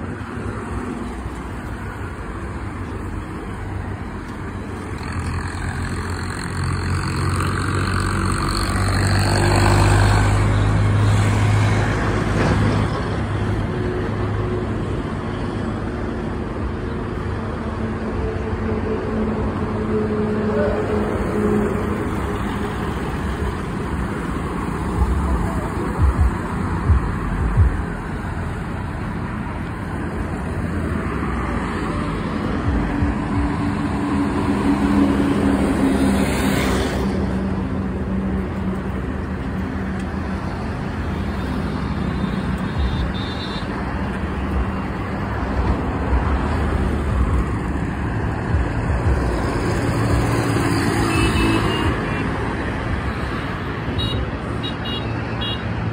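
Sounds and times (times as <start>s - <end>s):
cars and motorbikes passing: 0.0s - 55.9s.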